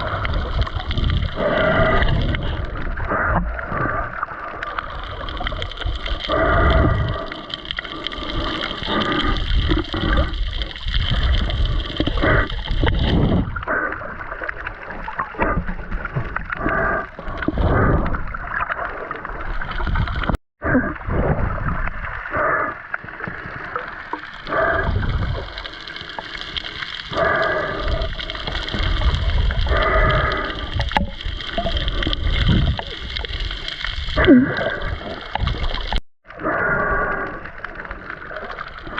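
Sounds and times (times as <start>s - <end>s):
underwater gurgling and sloshing: 0.0s - 38.9s.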